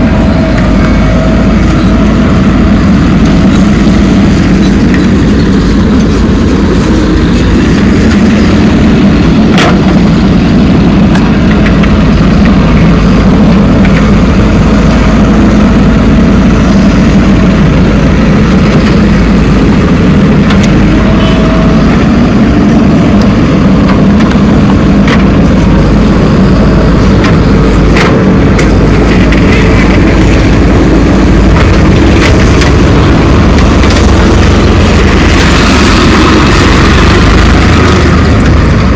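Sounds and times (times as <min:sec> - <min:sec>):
diesel machinery engines: 0:00.0 - 0:38.9.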